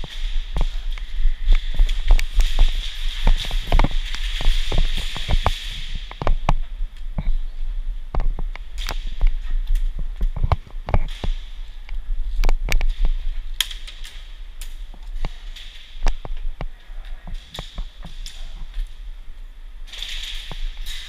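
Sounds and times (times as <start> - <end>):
footsteps and gear handling: 0.0 - 19.0.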